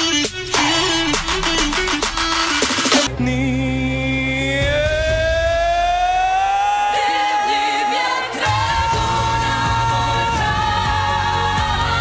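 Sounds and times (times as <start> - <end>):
pop music with steady beat: 0.0 - 12.0.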